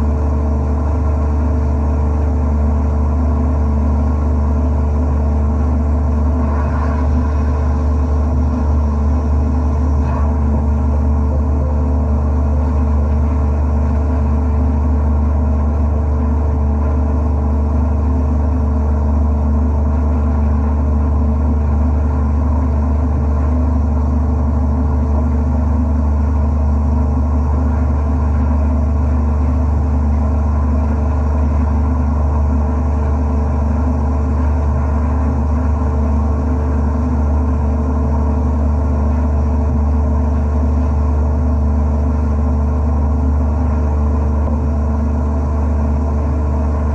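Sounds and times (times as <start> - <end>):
abrasive blasting machine humming: 0.0 - 46.9.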